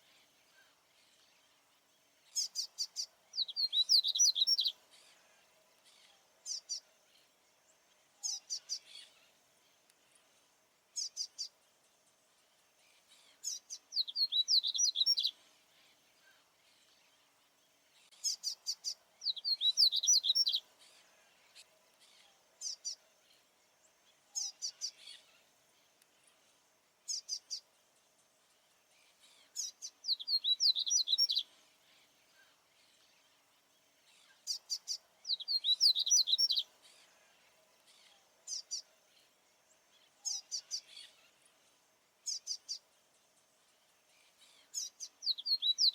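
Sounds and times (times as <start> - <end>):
bird twittering song: 0.0 - 45.9.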